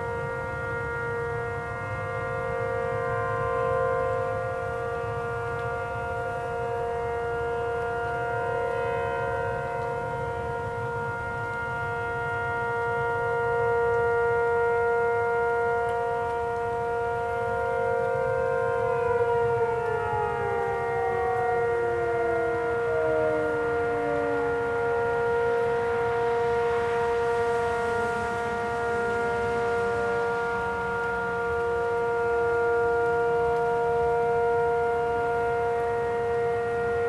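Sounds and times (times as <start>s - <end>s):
warning siren: 0.0s - 37.0s.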